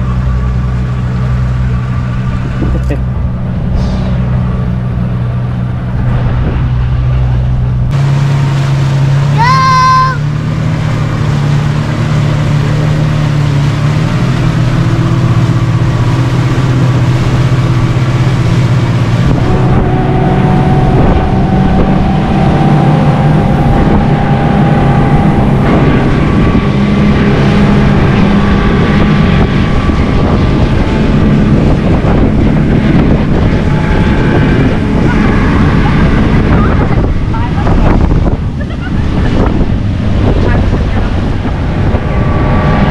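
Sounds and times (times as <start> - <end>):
wind noise on microphone: 0.0 - 8.6, 10.3 - 42.9
motorboat engine running: 0.0 - 42.9.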